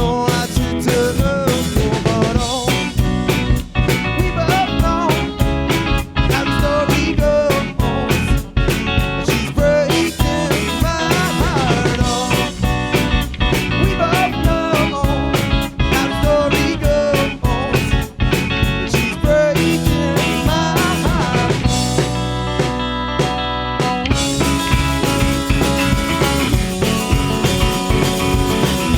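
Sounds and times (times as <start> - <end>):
drum kit beat: 0.0 - 28.9
guitar melody with bent notes: 0.0 - 28.9.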